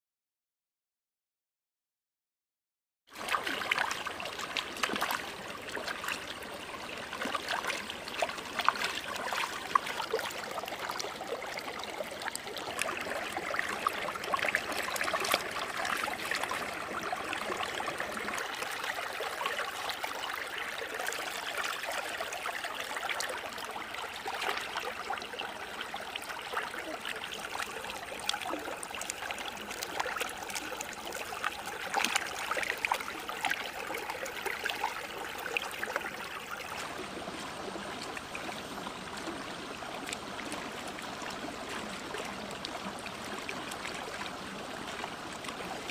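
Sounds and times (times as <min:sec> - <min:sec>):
small water splashes: 0:03.1 - 0:45.9
stream running over rocks: 0:03.1 - 0:45.9.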